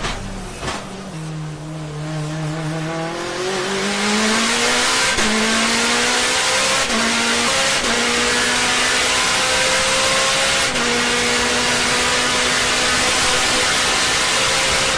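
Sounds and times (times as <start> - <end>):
car engine accelerating hard: 0.2 - 14.9.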